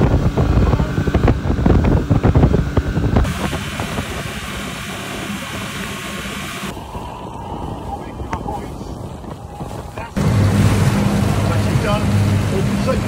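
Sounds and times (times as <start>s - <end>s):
outboard engine drone: 0.0s - 13.0s
rush of boat wake: 0.0s - 13.0s
wind buffeting microphone: 0.0s - 13.0s.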